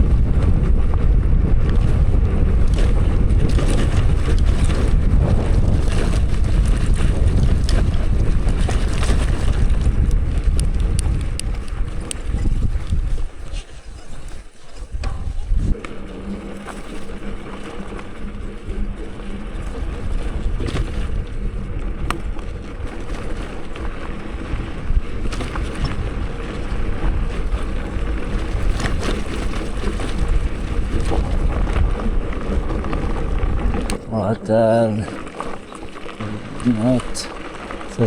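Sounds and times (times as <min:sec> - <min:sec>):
bicycle rolling on dirt trail: 0:00.0 - 0:38.0
wind on microphone: 0:00.0 - 0:38.0.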